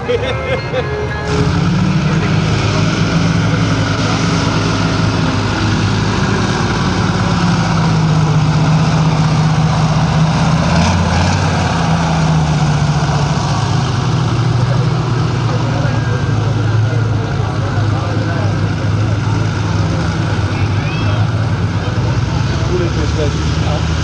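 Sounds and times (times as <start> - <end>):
tractor engine running loud: 0.0 - 24.0.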